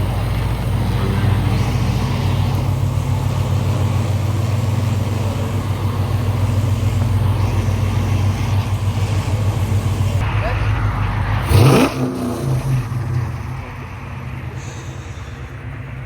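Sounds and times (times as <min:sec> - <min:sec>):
car engine running steadily: 0:00.0 - 0:16.0.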